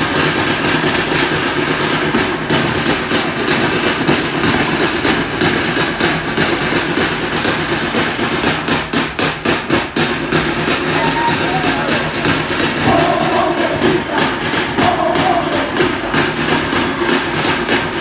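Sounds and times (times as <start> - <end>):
group clapping and slapping in rhythm: 0.0 - 18.0.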